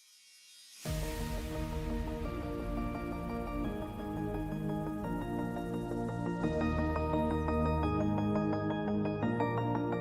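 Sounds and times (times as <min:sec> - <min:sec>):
background music with low bass: 0:00.8 - 0:10.0.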